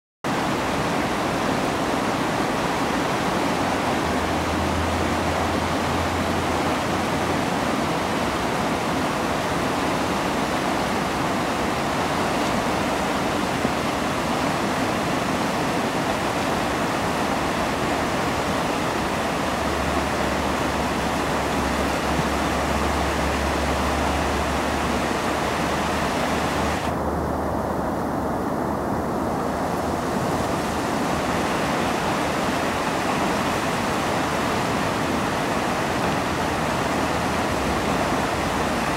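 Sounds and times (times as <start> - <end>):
floodwater rushing: 0.3 - 38.9.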